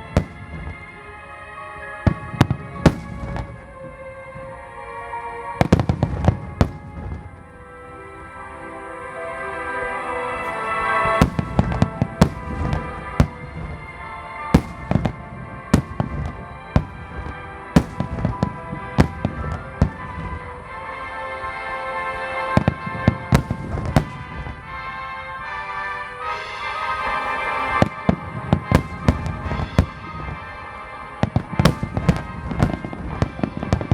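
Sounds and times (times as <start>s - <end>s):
fireworks bursting: 0.0s - 8.4s, 9.6s - 21.0s, 21.7s - 25.6s, 26.2s - 33.9s
music playing: 0.0s - 33.9s.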